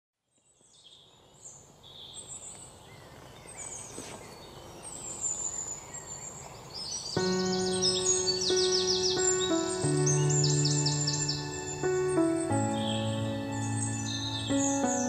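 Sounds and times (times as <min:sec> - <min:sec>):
birds chirping: 0:00.2 - 0:15.0
outdoor ambience hiss: 0:00.2 - 0:15.0.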